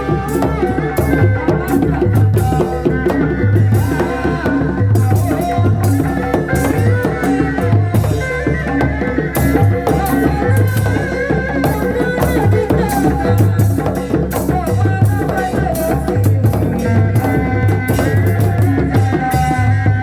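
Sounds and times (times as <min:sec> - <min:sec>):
drums beating: 0:00.0 - 0:20.0
rattling percussion: 0:00.0 - 0:20.0
reedy melody: 0:00.0 - 0:20.0.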